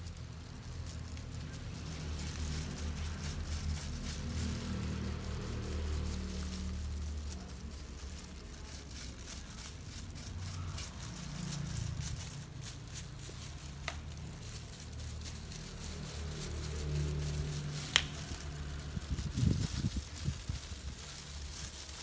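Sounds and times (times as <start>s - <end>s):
plastic gloves crinkling: 0.0s - 22.0s.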